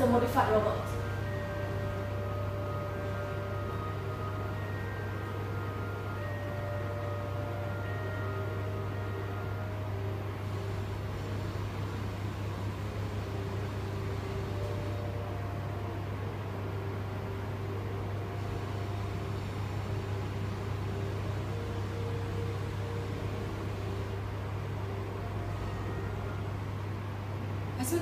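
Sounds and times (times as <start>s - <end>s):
fan-like hiss: 0.0s - 28.0s
steady low hum: 0.0s - 28.0s.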